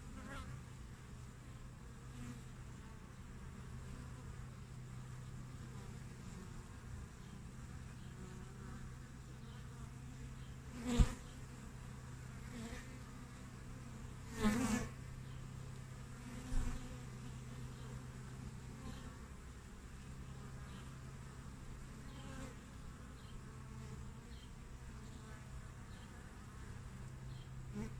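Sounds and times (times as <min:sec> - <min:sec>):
bees buzzing close past: 0:00.0 - 0:27.9
bees humming: 0:01.2 - 0:27.9.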